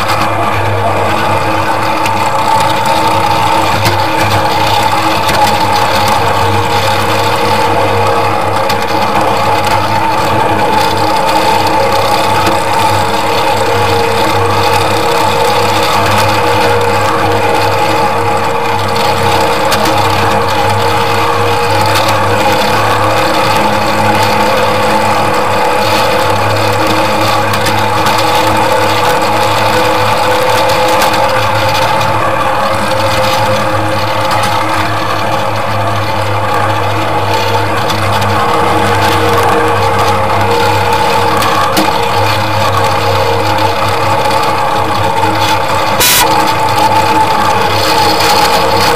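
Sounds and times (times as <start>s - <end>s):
miniature train drone and whine: 0.0s - 48.9s.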